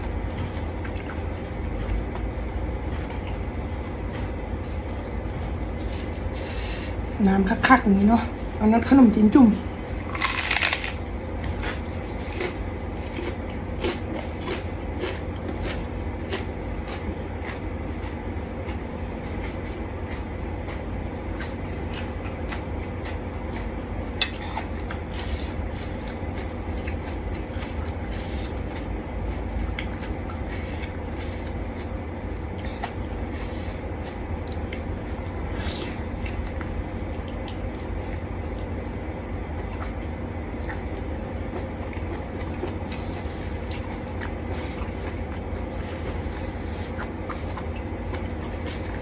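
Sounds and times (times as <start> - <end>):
chewing with mouth clicks: 0.0 - 2.3, 2.9 - 6.5, 9.7 - 39.0, 39.6 - 49.0
steady low hum: 0.0 - 49.0.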